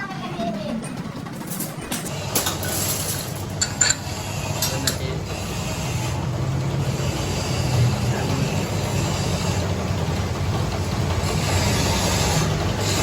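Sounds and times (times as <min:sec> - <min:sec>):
metal lathe running: 0:00.7 - 0:13.0.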